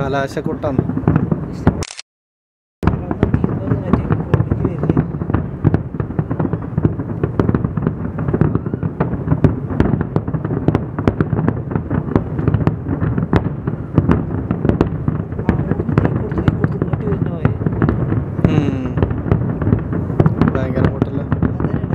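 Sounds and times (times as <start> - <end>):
fireworks booming and crackling: 0.0 - 1.8, 2.8 - 21.9.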